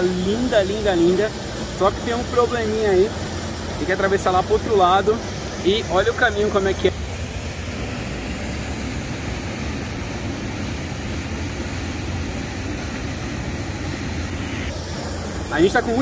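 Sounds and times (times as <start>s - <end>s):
waterfall and river rushing: 0.0s - 16.0s.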